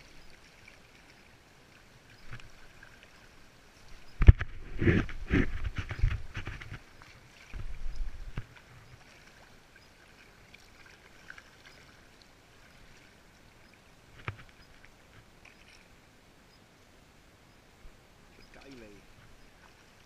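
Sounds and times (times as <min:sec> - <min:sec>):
water rushing along canoe hull: 0:00.0 - 0:20.0.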